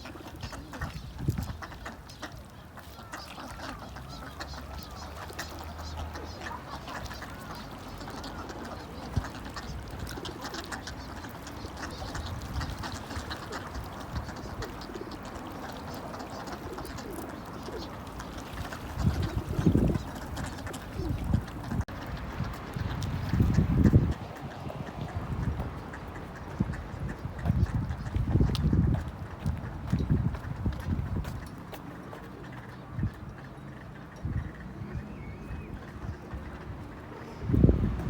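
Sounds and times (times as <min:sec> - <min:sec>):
birds chirping and calling: 0:00.0 - 0:38.0.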